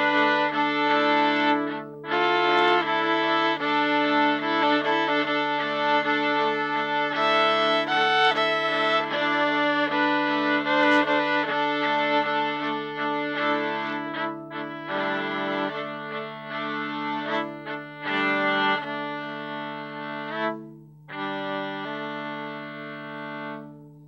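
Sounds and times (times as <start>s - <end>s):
bowed viola notes: 0.0s - 24.0s.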